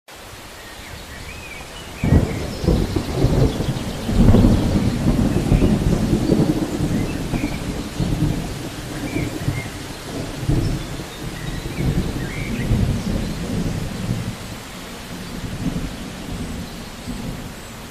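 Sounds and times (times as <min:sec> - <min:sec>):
steady rain: 0:00.1 - 0:17.9
low rolling thunder: 0:01.2 - 0:17.9
thunderclap: 0:01.9 - 0:17.6.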